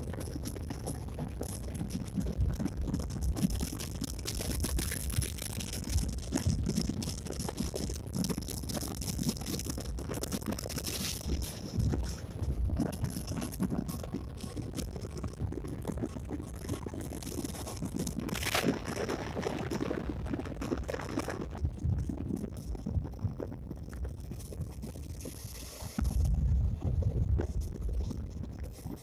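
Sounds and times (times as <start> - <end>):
wind buffeting microphone: 0.0 - 19.9, 25.4 - 29.0.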